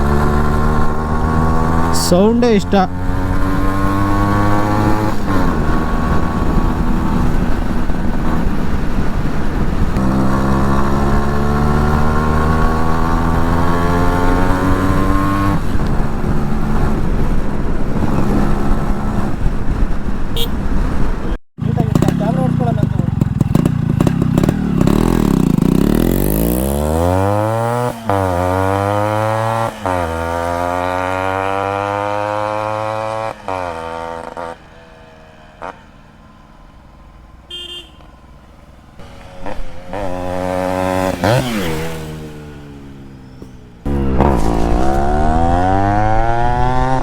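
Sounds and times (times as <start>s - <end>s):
motorcycle accelerating through gears: 0.0s - 37.9s, 38.5s - 47.0s.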